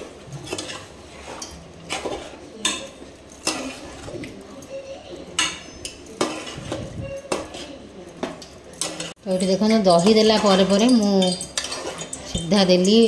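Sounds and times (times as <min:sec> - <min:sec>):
metal spatula scraping cooking pot: 0:00.0 - 0:13.0.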